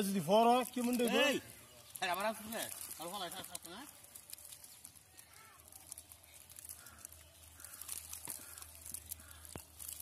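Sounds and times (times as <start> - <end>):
fish rustling in a net: 0.0 - 10.0.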